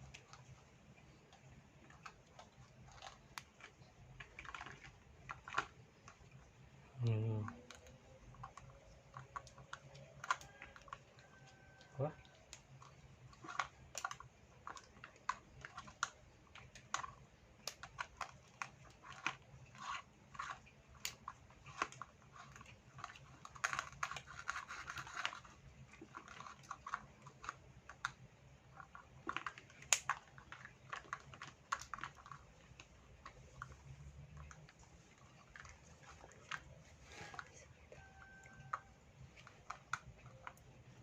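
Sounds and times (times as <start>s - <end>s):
plastic toy pieces clicking: 1.8s - 6.3s, 7.0s - 37.5s.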